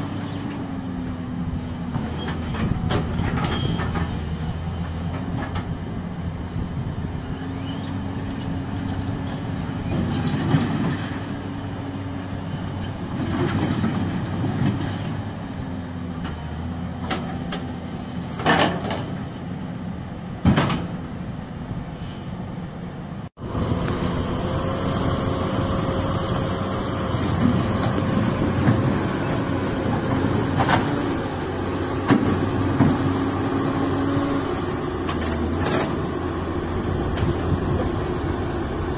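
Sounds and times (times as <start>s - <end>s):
constant machine whine: 0.0s - 38.9s
excavator diesel engine running: 0.0s - 38.9s.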